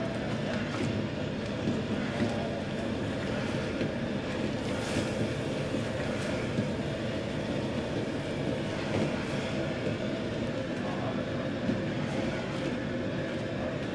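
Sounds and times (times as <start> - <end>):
wok burner roaring: 0.0 - 13.9.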